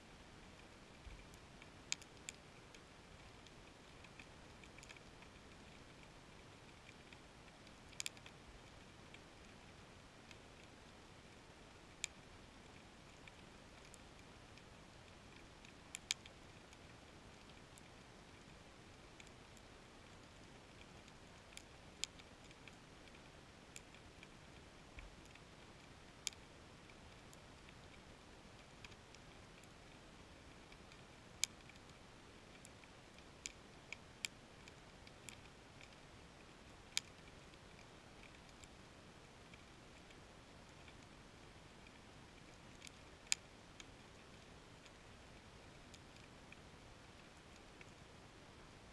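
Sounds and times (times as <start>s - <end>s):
low steady hiss: 0.0s - 48.9s.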